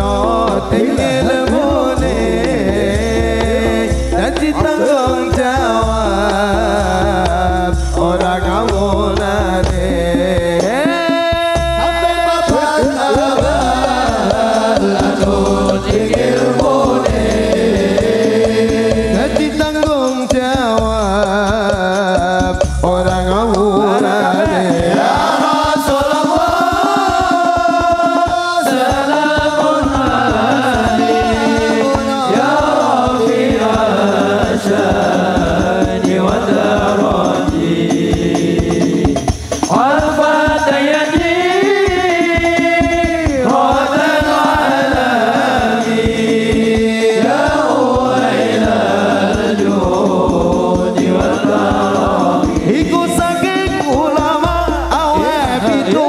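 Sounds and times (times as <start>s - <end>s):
fast percussion beat: 0.0s - 56.0s
man singing through loudspeaker: 0.0s - 56.0s.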